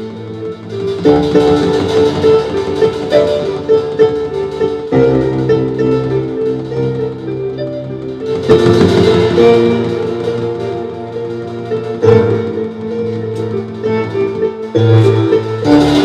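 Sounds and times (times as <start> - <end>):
plucked string melody: 0.0 - 16.0.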